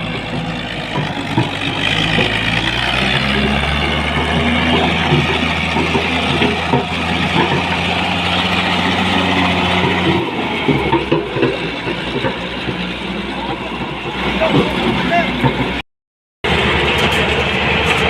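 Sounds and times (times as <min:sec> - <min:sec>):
heavy diesel engine running: 0:00.0 - 0:15.8, 0:16.4 - 0:18.0.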